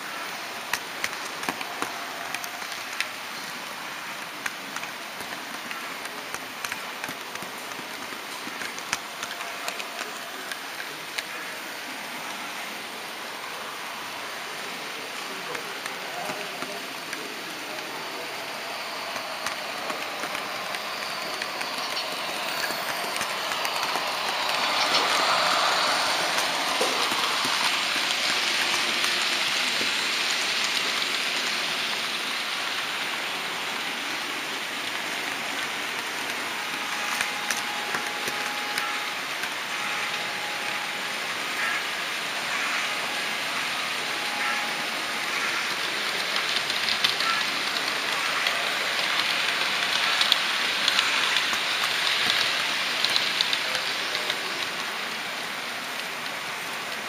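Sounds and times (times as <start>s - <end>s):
model train rushing hiss: 0.0s - 57.0s.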